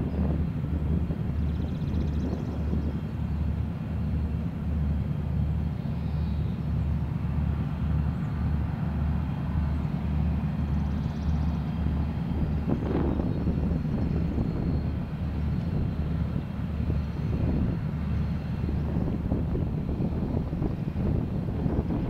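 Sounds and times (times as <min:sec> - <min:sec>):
distant diesel locomotive drone: 0:00.0 - 0:22.0.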